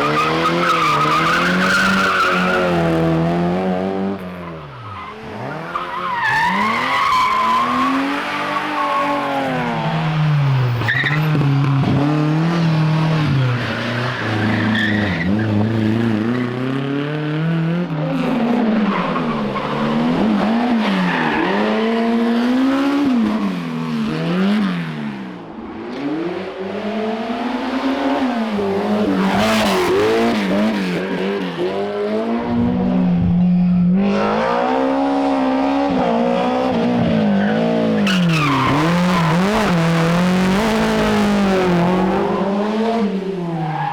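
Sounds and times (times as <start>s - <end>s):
rally car engines revving hard: 0.0s - 43.9s.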